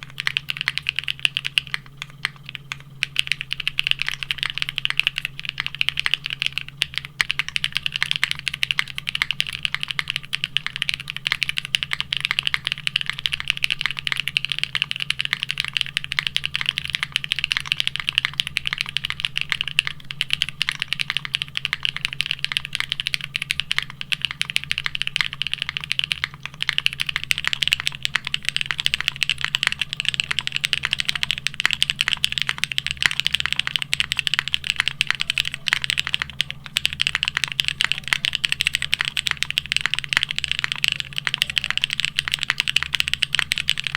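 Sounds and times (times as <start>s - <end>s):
fast typing on mechanical keyboard: 0.0s - 43.9s.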